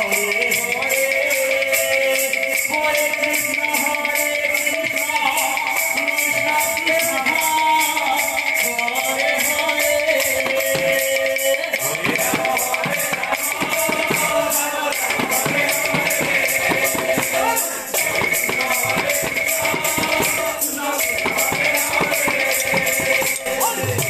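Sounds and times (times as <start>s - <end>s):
barrel drums beaten in fast rhythm: 0.0s - 24.0s
metallic hand cymbals ringing: 0.0s - 24.0s.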